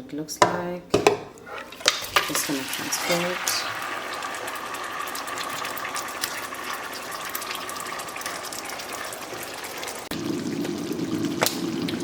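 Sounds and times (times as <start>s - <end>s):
meat sizzling in a pan: 1.7s - 12.0s.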